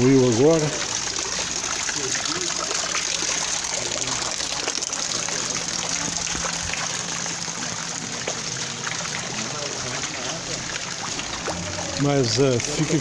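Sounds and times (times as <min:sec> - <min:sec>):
runoff water rushing and trickling: 0:00.0 - 0:13.0.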